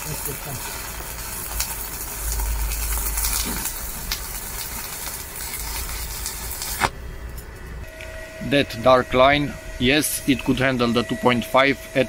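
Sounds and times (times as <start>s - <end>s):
welding arc crackling sizzle: 0.0s - 12.0s.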